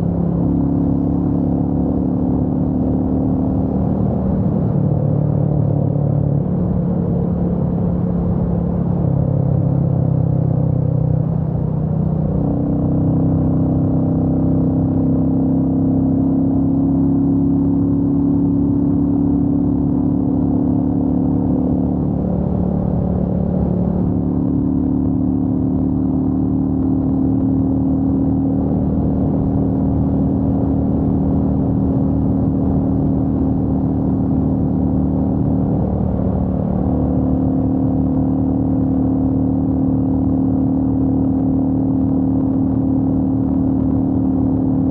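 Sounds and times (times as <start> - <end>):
motorcycle engine and exhaust: 0.0 - 44.9.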